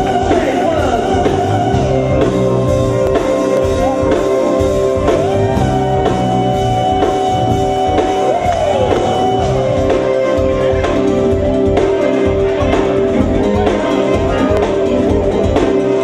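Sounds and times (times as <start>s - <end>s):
loud music with steady beat: 0.0s - 16.0s.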